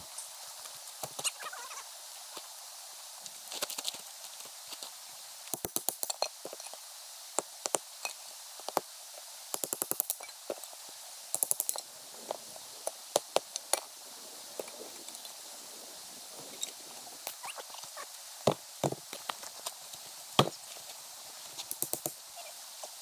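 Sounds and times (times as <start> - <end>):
campfire crackling and popping: 0.2 - 22.2.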